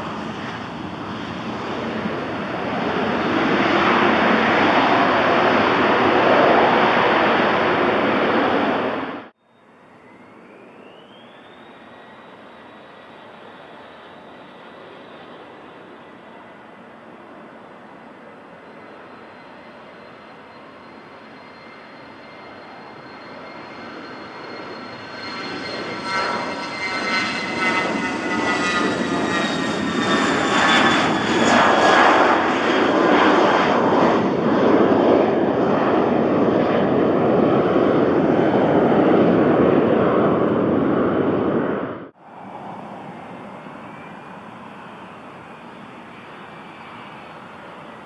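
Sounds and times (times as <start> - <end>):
jet passing with falling whine: 0.0 - 48.0.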